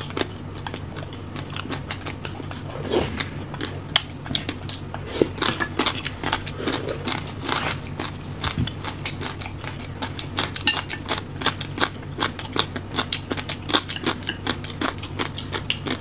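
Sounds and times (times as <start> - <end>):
person chewing with lips smacking: 0.0 - 16.0.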